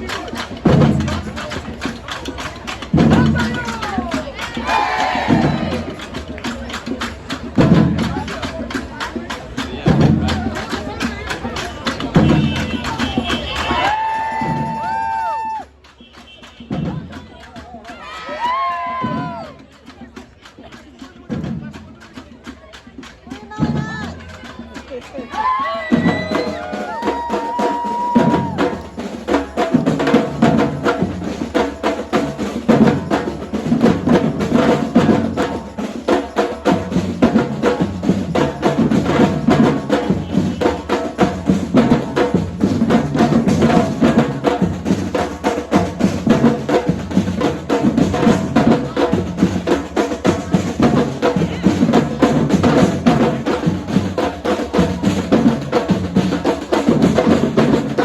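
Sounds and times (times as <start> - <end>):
hand percussion clatter: 0.0 - 4.6, 5.4 - 58.0
bass drums: 0.0 - 15.6, 16.6 - 17.8, 18.6 - 58.0
rapid snare drum strokes: 0.0 - 58.0.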